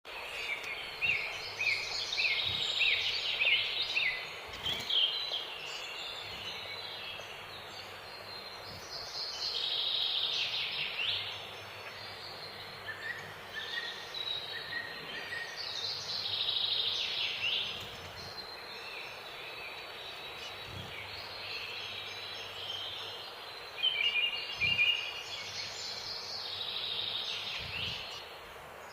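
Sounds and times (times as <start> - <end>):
finches chirping and twittering: 0.1 - 28.9
steady background hiss: 0.1 - 28.9.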